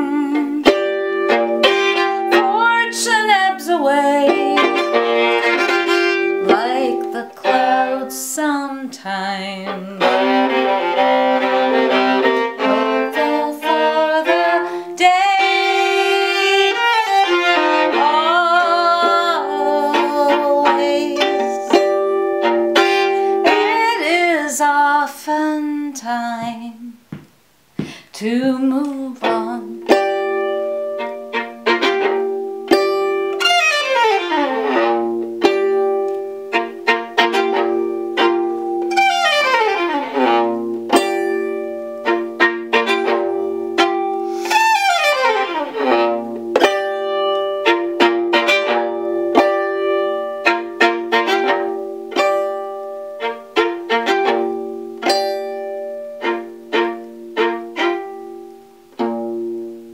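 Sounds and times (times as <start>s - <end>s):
solo violin melody: 0.0s - 26.9s, 28.3s - 59.9s.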